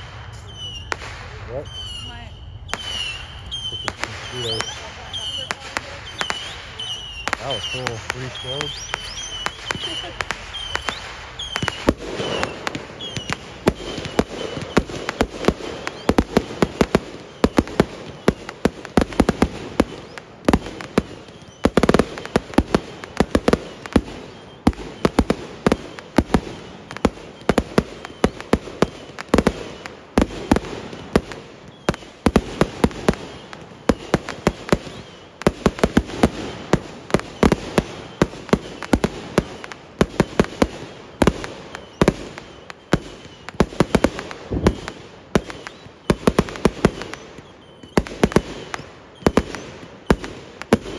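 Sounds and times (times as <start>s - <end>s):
fireworks bangs and crackling: 0.0s - 50.9s
rumble of explosions: 0.0s - 50.9s.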